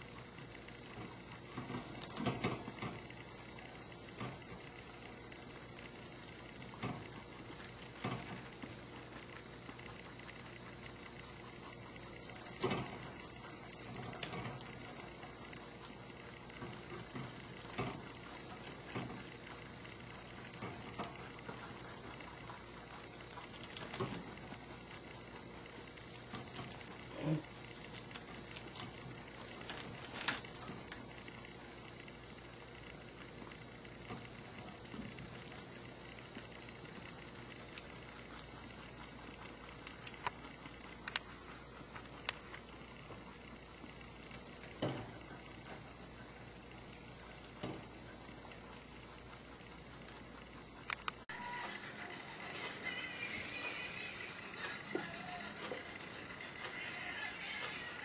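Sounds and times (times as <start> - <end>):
rabbit crunching lettuce: 0.0 - 58.0
steady hiss: 0.0 - 58.0.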